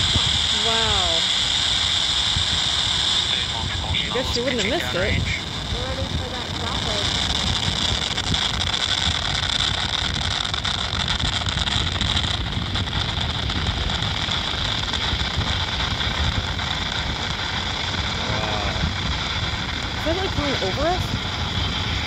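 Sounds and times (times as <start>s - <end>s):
surf on beach: 0.0s - 22.0s
wind on microphone: 0.0s - 22.0s.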